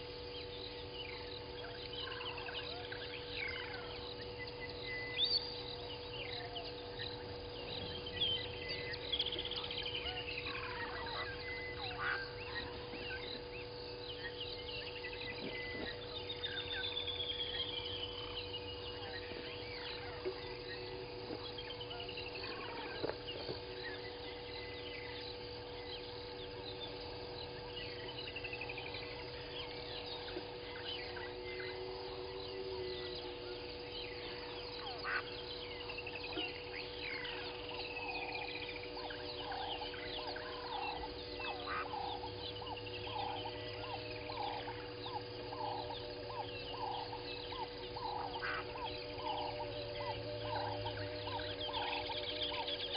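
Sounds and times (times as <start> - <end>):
birds trilling: 0.0 - 52.9
faint steady hum: 0.0 - 52.9
lower bird calls: 0.0 - 52.9.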